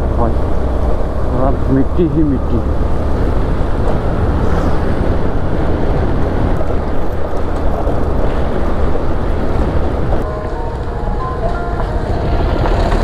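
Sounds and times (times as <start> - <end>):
vehicle running low rumble: 0.0 - 13.0
wind buffeting microphone: 0.0 - 13.0.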